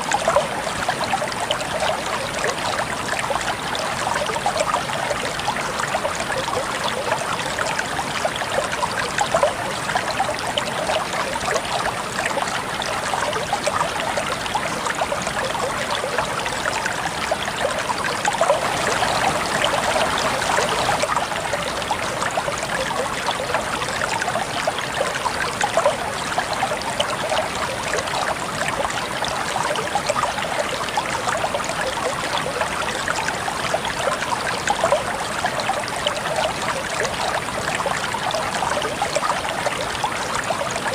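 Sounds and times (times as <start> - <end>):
river water trickling: 0.0 - 40.9.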